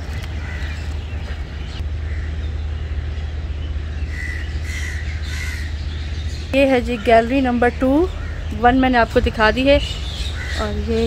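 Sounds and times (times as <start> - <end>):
birds calling: 0.0 - 11.0
steady low rumble: 0.0 - 11.0.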